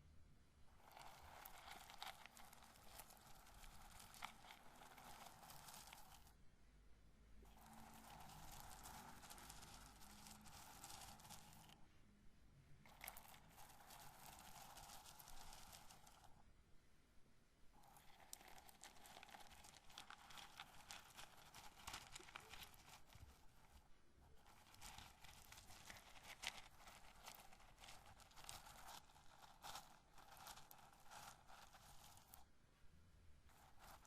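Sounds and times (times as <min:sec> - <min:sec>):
corn kernels crackling: 0:00.8 - 0:06.4, 0:07.5 - 0:11.8, 0:12.9 - 0:16.4, 0:17.8 - 0:32.5, 0:33.5 - 0:34.0.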